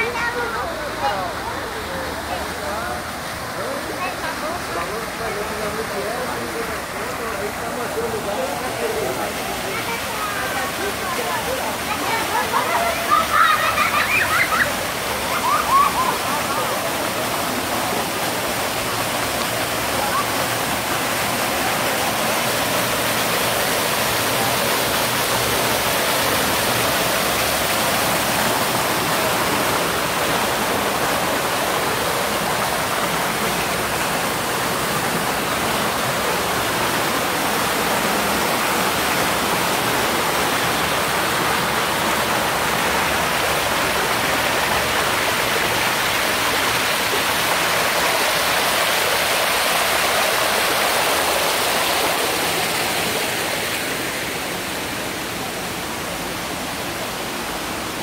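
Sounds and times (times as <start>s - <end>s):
waterfalls splashing into pool: 0.0s - 58.0s.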